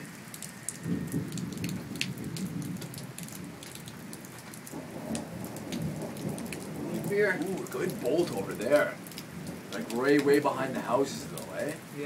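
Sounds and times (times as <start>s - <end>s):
rain falling: 0.0s - 12.0s
raindrops ticking on surfaces: 0.0s - 12.0s
distant thunder rumble: 0.7s - 12.0s.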